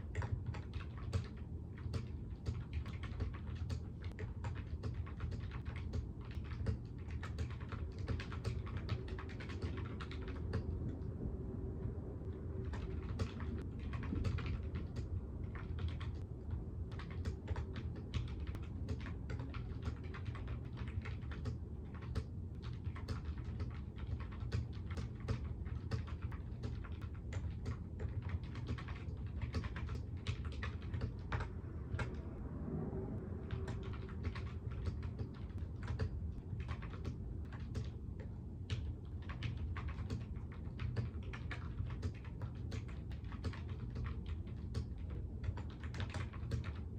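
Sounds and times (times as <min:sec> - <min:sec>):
typing on computer keyboard: 0:00.0 - 0:11.0, 0:12.5 - 0:32.2, 0:33.4 - 0:46.9
low steady hum: 0:00.0 - 0:46.9.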